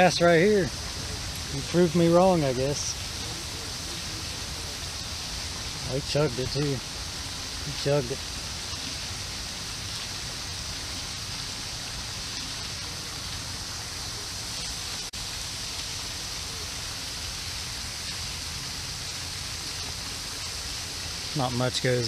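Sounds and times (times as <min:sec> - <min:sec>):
fountain spray splashing: 0:00.0 - 0:22.0.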